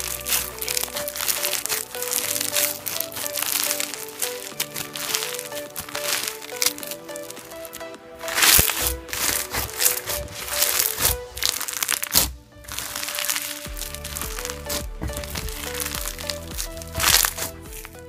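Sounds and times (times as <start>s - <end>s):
slime crunching and crackling: 0.0s - 18.0s
tropical house music: 0.0s - 18.0s.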